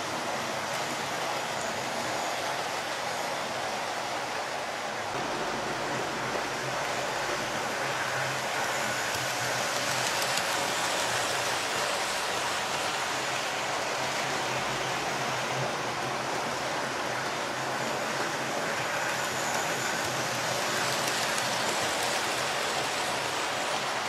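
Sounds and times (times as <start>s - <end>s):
model trains whirring on rails: 0.0s - 24.0s.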